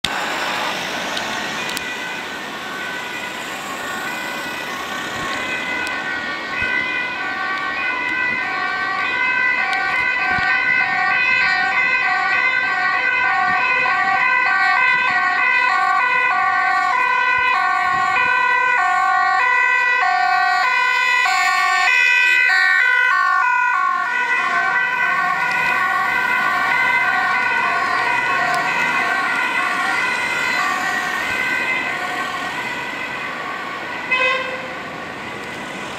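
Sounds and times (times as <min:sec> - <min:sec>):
ambulance two-tone sirens: 0:00.0 - 0:35.9
road traffic: 0:00.0 - 0:35.9.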